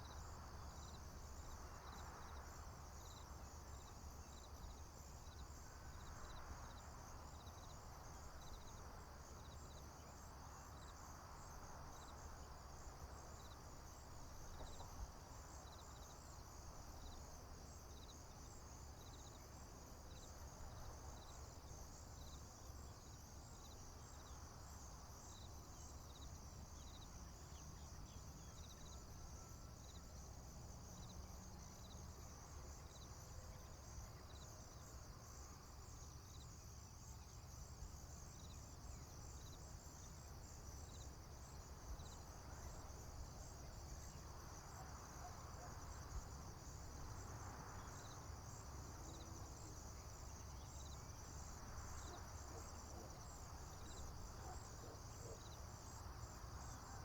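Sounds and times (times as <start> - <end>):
crickets trilling: 0.0 - 57.0
low cricket chirp: 0.0 - 57.0.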